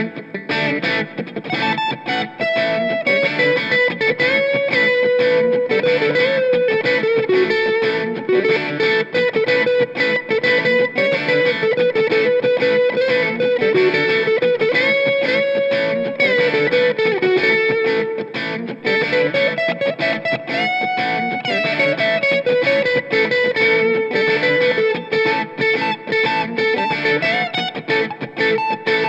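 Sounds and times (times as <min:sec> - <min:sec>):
overdriven electric guitar lead: 0:00.0 - 0:29.0.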